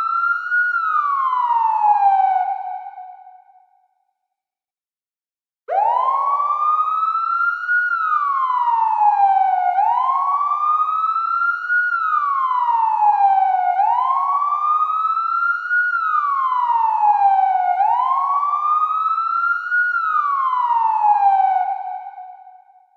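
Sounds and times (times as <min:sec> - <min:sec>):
wailing siren: 0:00.0 - 0:03.7, 0:05.7 - 0:22.9.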